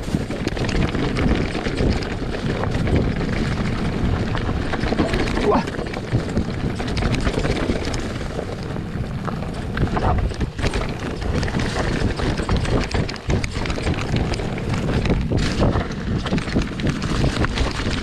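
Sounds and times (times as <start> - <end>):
bike knocks and rattles: 0.0 - 18.0
tyre rumble: 0.0 - 18.0
wind noise on microphone: 0.0 - 18.0.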